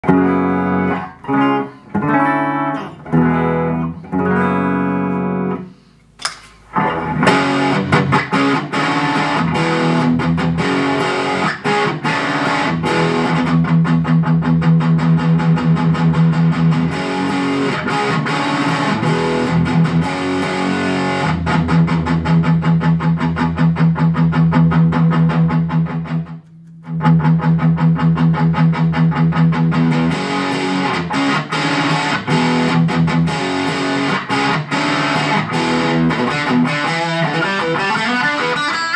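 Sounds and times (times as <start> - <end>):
overdriven electric guitar: 0.0 - 5.9, 6.7 - 38.9.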